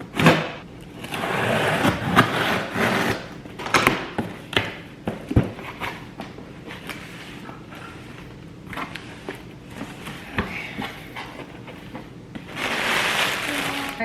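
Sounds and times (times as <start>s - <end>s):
cardboard ripping and scraping: 1.0s - 14.0s.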